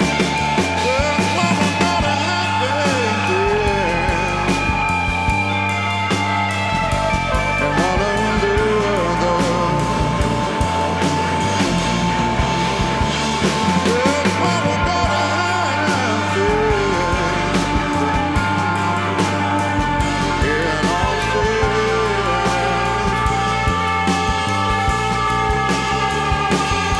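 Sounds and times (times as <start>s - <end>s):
instrumental rock band: 0.0s - 26.9s.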